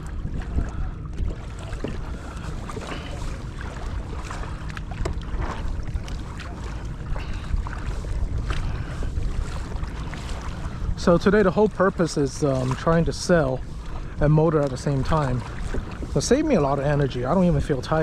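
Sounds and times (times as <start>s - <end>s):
water slapping against kayak hull: 0.0s - 18.0s
wind on microphone: 0.0s - 18.0s.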